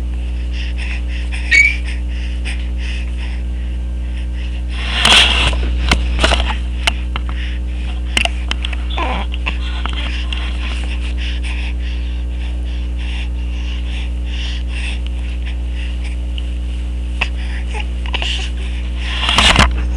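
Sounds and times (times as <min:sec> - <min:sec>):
low electrical hum: 0:00.0 - 0:19.9.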